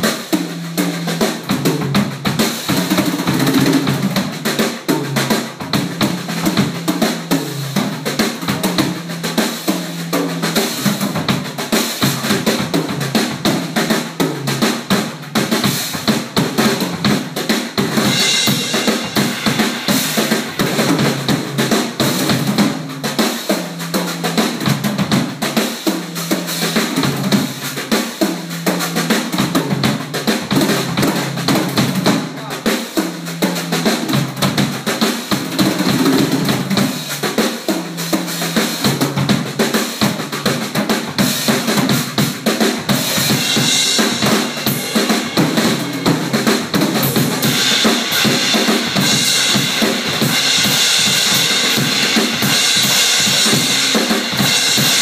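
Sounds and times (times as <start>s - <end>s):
drum kit playing hard: 0.0s - 55.0s.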